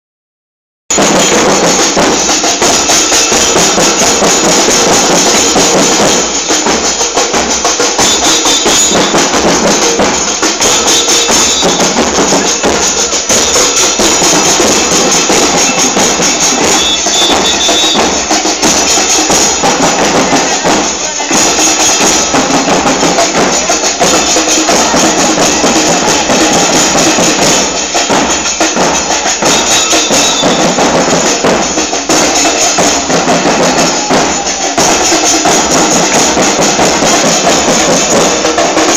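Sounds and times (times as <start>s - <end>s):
bass drums playing rhythm: 0.9s - 38.9s
cymbals clashing: 0.9s - 38.9s.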